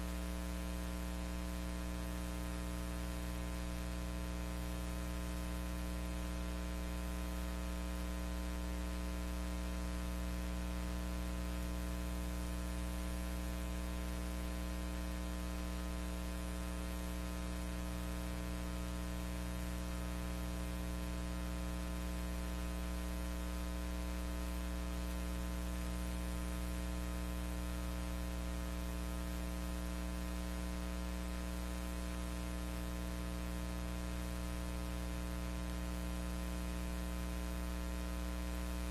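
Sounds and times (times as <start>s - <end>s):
electrical mains hum with hiss: 0.0s - 38.9s.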